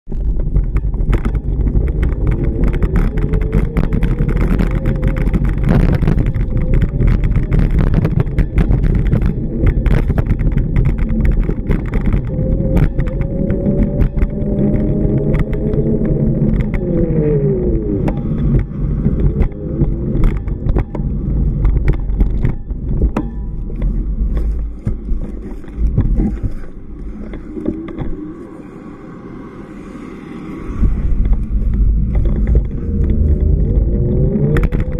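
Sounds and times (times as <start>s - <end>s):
road traffic rumble: 0.1s - 34.9s
vehicles passing: 0.2s - 34.9s.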